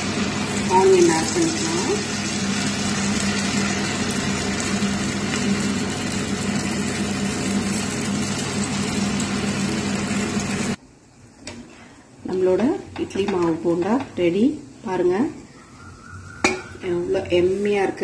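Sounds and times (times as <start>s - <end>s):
hot oil sizzling and bubbling: 0.0s - 11.4s, 13.8s - 18.0s.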